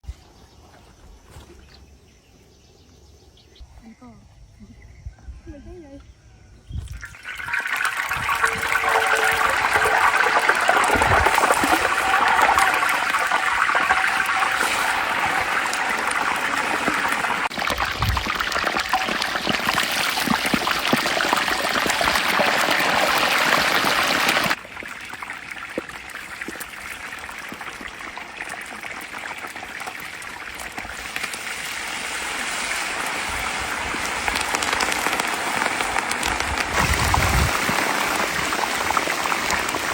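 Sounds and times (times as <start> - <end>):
oil sizzling and bubbling: 6.8 - 39.9.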